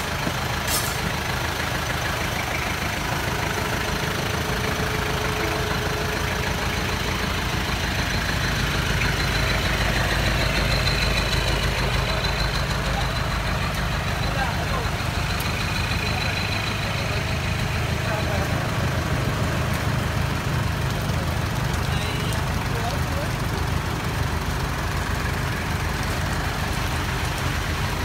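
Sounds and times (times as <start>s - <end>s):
heavy rain hissing: 0.0s - 28.0s
truck engine idling: 0.0s - 28.0s.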